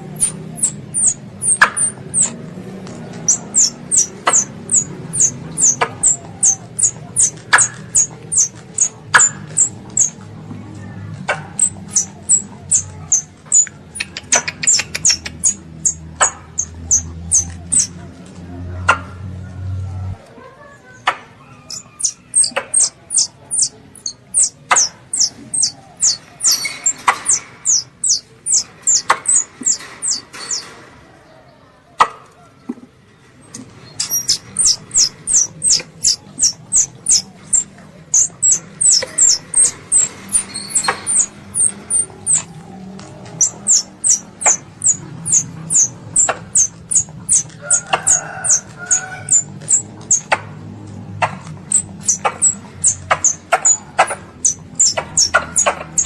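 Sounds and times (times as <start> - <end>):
squirrel chirping: 0.0 - 18.2, 21.1 - 30.7, 33.8 - 56.0.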